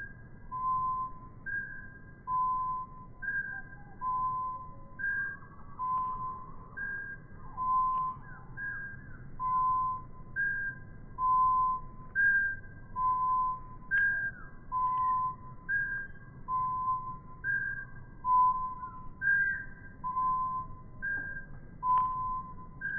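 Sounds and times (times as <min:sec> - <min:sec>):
slowed bird song whistle: 0:00.0 - 0:22.9.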